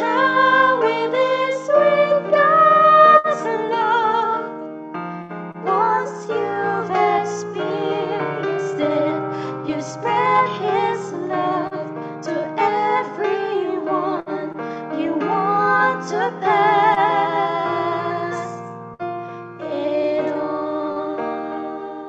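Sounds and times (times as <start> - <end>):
woman and girl singing: 0.0 - 4.5, 5.7 - 18.6, 19.6 - 22.0
piano accompaniment: 0.0 - 22.0.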